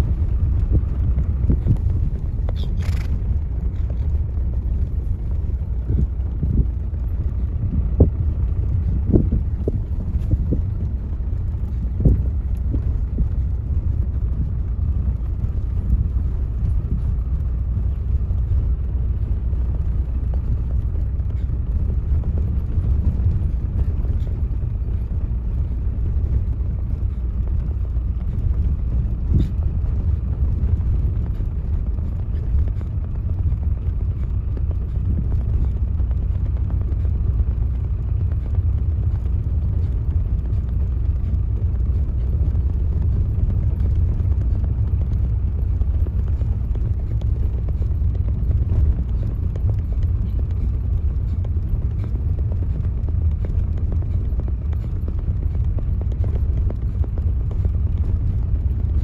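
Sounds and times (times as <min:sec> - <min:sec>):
vehicle rumbling over rough ground: 0:00.0 - 0:59.0.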